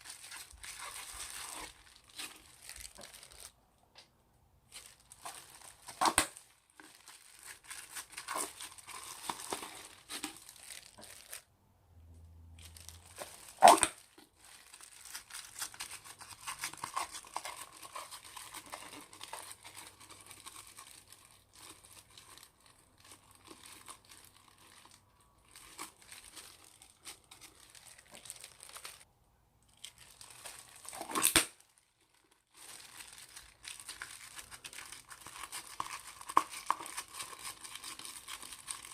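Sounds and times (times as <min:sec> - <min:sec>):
slime crackling and tearing: 0:00.0 - 0:03.6, 0:04.7 - 0:11.5, 0:12.6 - 0:29.1, 0:29.7 - 0:38.9.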